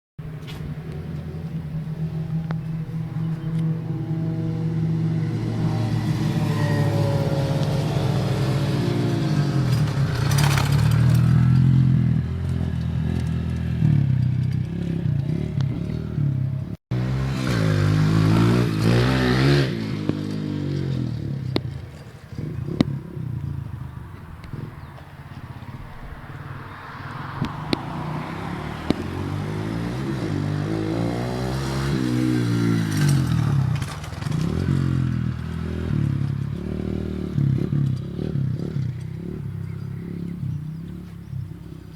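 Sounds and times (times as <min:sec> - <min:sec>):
pit bike engine revving: 0:00.4 - 0:41.9.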